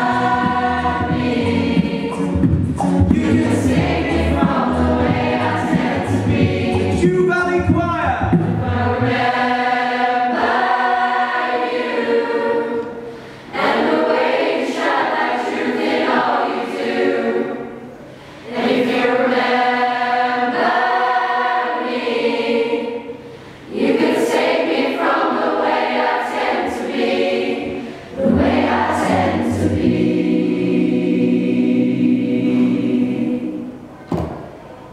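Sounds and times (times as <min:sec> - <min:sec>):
choir singing a cappella: 0:00.0 - 0:07.1, 0:08.3 - 0:34.5.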